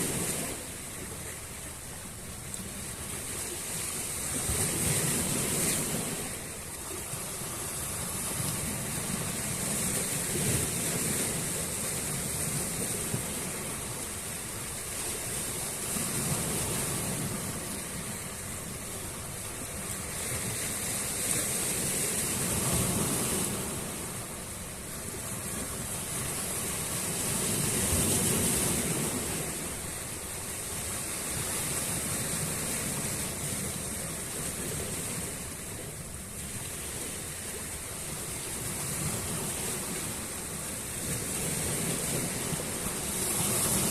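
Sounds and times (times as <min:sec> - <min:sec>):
sea waves breaking on shore: 0:00.0 - 0:43.9.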